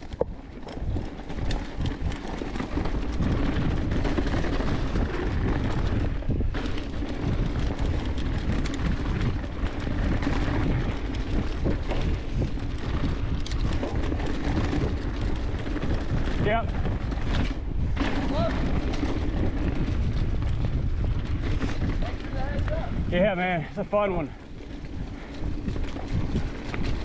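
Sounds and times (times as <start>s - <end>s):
bike clicking and knocking over bumps: 0.0s - 23.0s, 24.4s - 27.0s
bike tyres rolling over dry leaves: 0.0s - 27.0s.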